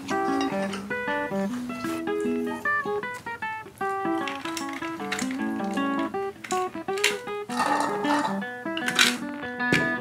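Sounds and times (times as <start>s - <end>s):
acoustic guitar melody: 0.0s - 10.0s.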